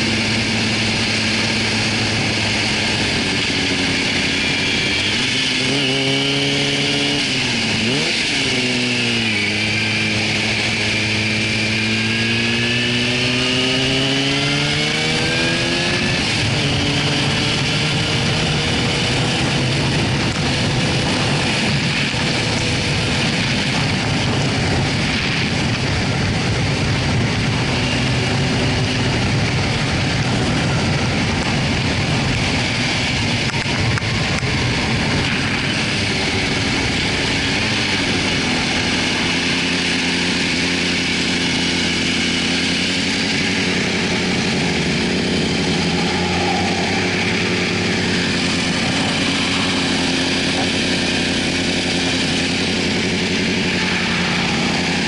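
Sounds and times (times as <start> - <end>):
motorcycle idling: 0.0 - 5.9, 15.9 - 55.0
motorcycle engine running: 0.0 - 55.0
wind rush: 0.0 - 55.0.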